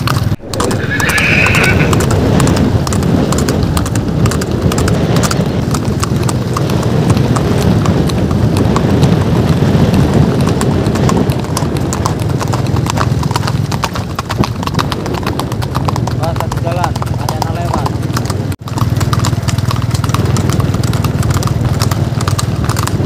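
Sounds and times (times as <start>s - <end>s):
hooves clip-clopping on asphalt: 0.0s - 23.0s.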